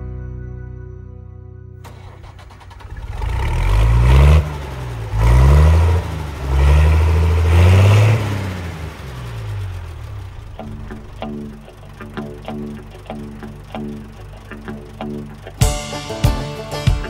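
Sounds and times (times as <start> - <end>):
engine revving: 1.8 - 15.6.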